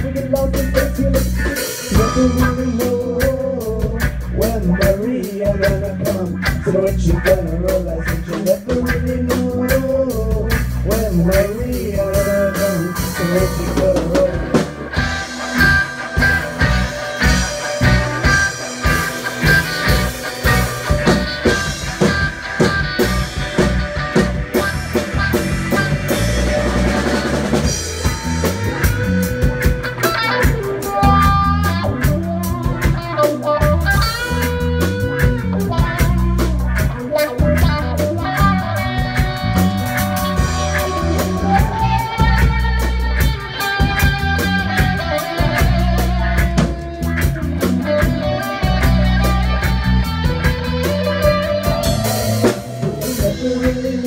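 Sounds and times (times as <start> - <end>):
guitar lead with bending notes: 0.0 - 54.0
reggae band playing instrumental: 0.0 - 54.0.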